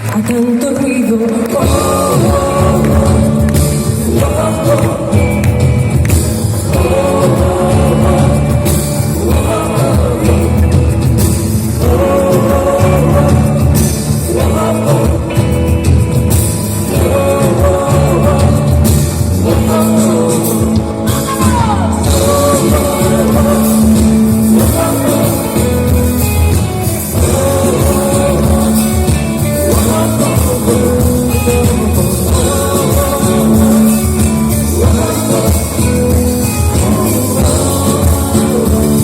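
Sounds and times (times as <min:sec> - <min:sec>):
live rock band playing: 0:00.0 - 0:39.0
person singing: 0:00.0 - 0:39.0.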